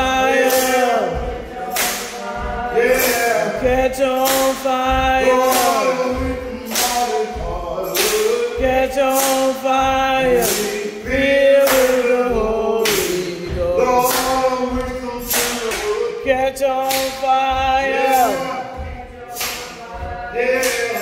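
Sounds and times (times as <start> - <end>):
hand claps: 0.0 - 21.0
slow gospel song: 0.0 - 21.0.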